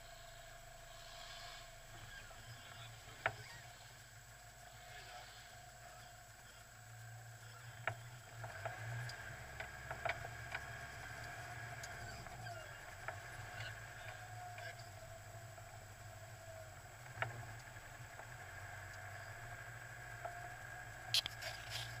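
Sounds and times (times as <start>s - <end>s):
engine running at low revs: 0.0s - 22.0s
wavering whine: 0.0s - 22.0s.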